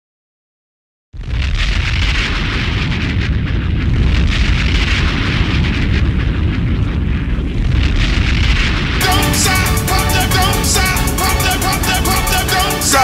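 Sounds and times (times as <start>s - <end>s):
deep rumble: 1.2s - 13.0s
loud rushing noise: 1.2s - 13.0s.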